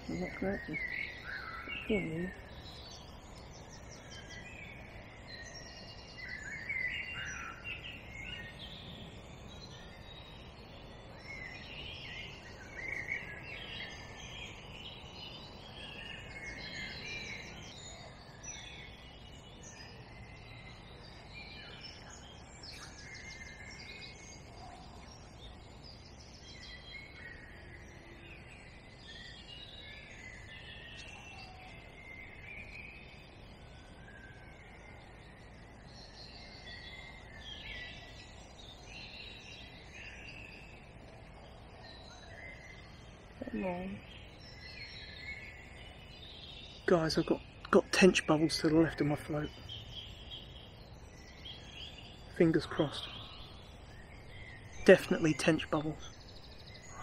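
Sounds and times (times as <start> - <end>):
songbirds singing and chirping: 0.0 - 57.0
steady low background noise: 0.0 - 57.0.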